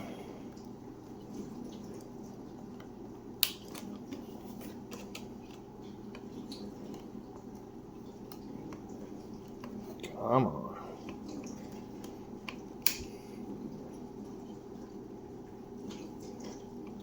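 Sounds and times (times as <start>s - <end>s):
dishwasher humming: 0.0s - 17.0s.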